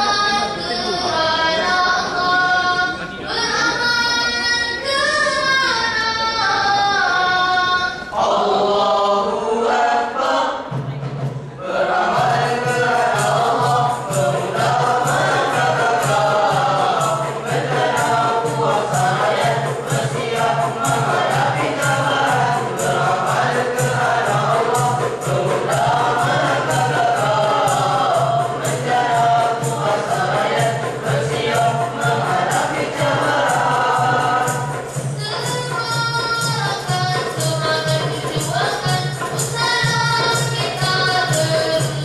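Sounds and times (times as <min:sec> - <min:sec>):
boys singing devotional song: 0:00.0 - 0:42.0
regular beat: 0:08.2 - 0:42.0.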